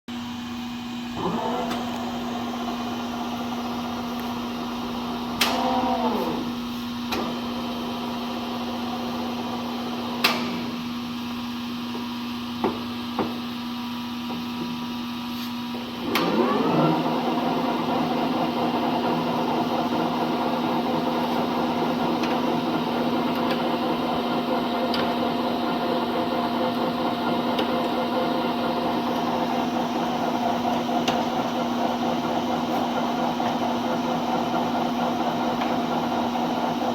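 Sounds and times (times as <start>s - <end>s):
lathe machine hum: 0.3s - 11.8s, 13.8s - 36.9s.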